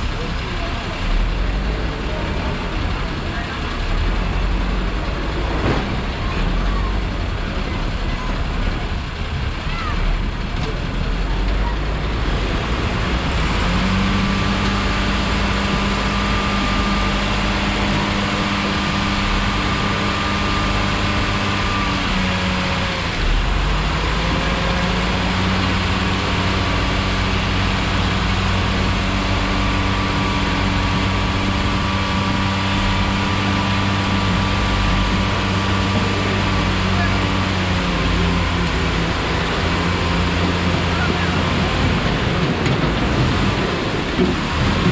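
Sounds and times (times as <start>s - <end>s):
heavy vehicle engine humming: 0.0s - 44.9s
street traffic noise: 0.0s - 44.9s.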